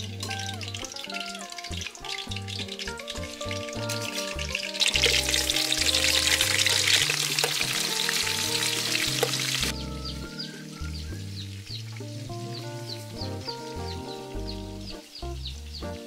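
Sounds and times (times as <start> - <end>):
background music with steady notes: 0.0 - 16.0
ribs sizzling in hot oil: 0.0 - 16.0.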